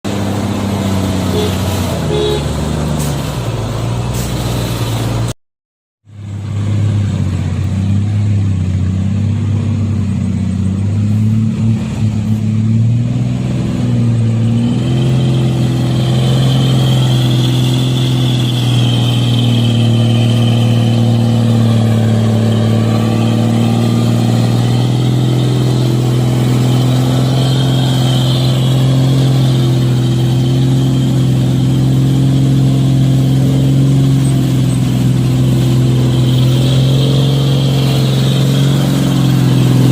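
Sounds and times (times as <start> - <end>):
heavy truck engine under load: 0.0 - 5.4, 6.1 - 39.9.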